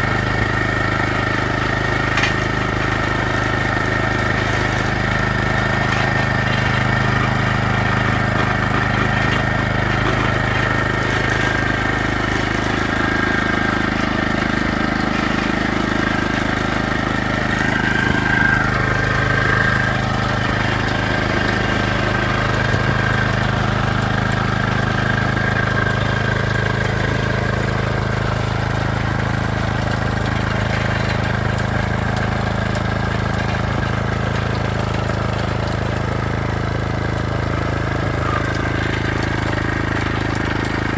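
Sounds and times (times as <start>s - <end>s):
vehicle engine humming: 0.0s - 40.9s.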